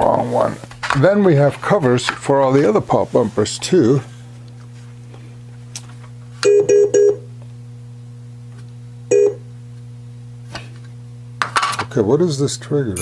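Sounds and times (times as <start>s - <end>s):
pinball machine electrical hum: 0.0s - 13.0s.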